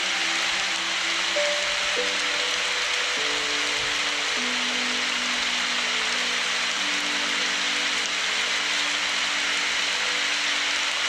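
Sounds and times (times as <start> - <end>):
soft background music: 0.0 - 11.0
steady rain hiss: 0.0 - 11.0.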